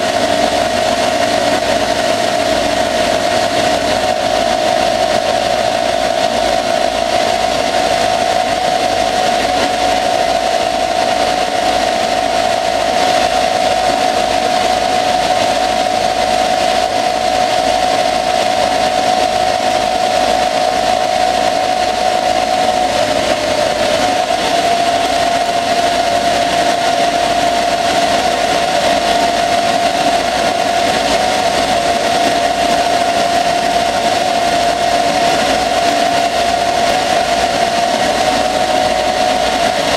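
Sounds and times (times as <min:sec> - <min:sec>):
lathe motor whine: 0:00.0 - 0:39.9.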